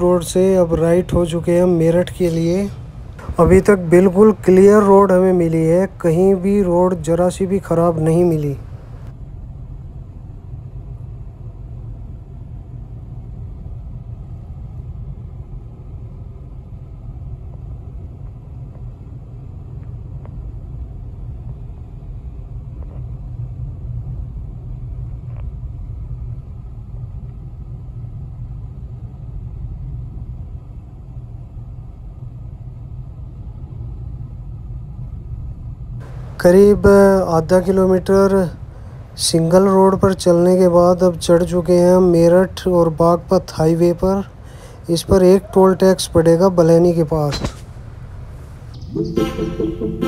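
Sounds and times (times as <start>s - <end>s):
car engine and tyre rumble: 0.0s - 30.8s, 34.3s - 48.8s.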